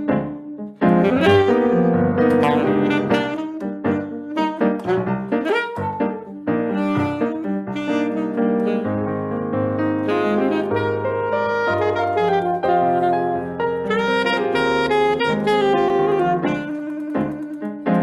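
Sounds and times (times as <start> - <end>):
bass: 0.0 - 18.0
piano chords: 0.0 - 18.0
saxophone playing jazz: 0.0 - 18.0.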